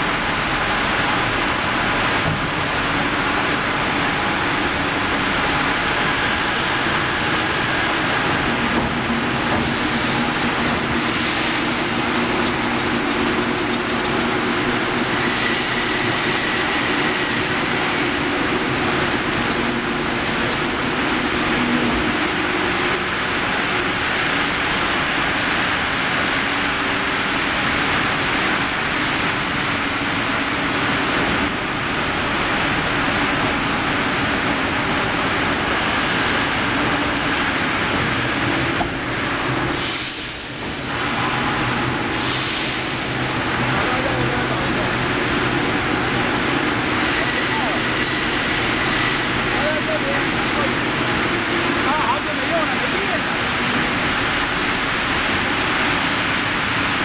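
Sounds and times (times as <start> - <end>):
hissing cooling water and steam: 0.0 - 57.0.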